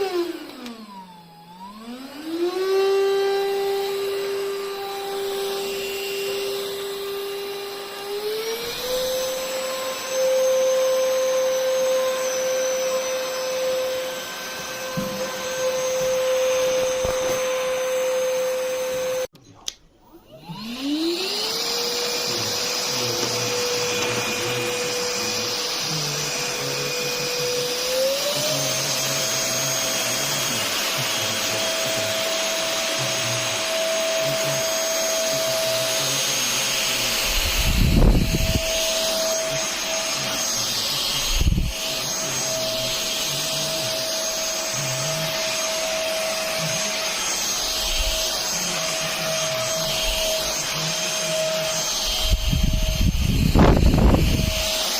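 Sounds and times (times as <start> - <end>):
vacuum motor whine: 0.0 - 54.9.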